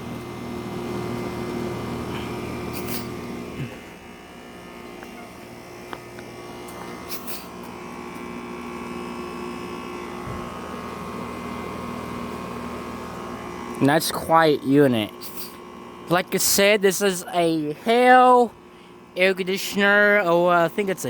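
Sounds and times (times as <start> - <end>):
air conditioner compressor humming: 0.0 - 21.0
condenser fan spinning: 0.0 - 21.0.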